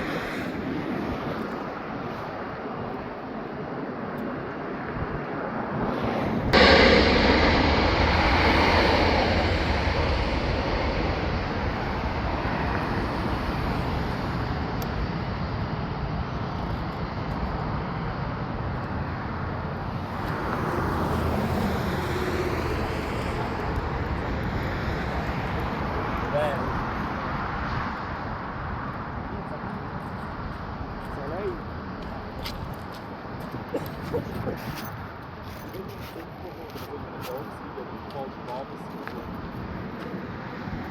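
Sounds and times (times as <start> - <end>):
jet airliner engine noise: 0.0 - 40.9.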